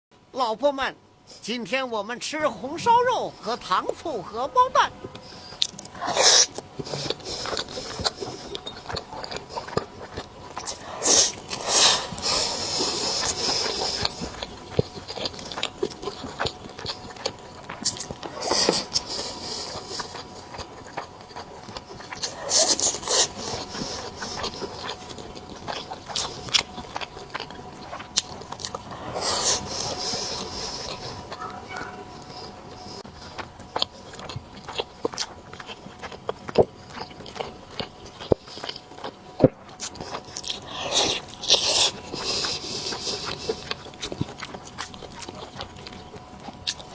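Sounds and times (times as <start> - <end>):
chewing soft food: 2.4 - 46.9.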